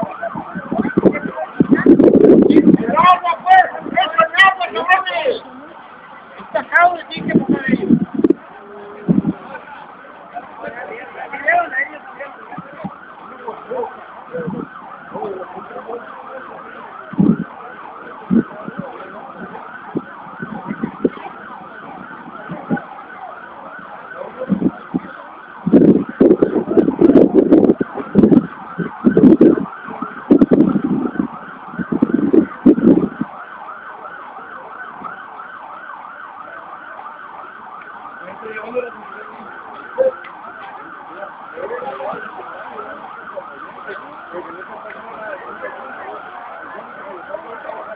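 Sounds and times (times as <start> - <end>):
bursts of low noise: 0.0 - 47.9
emergency siren yelping: 0.0 - 47.9.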